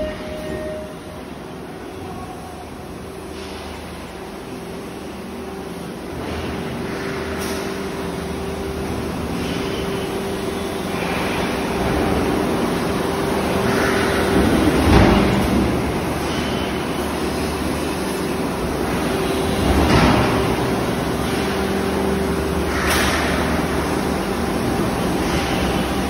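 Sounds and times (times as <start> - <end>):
pump and machinery humming: 0.0 - 26.0.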